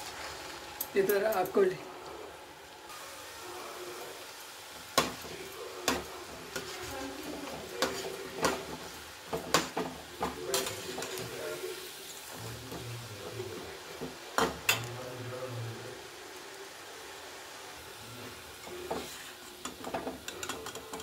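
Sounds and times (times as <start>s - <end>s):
oil sizzling: 0.0s - 21.0s.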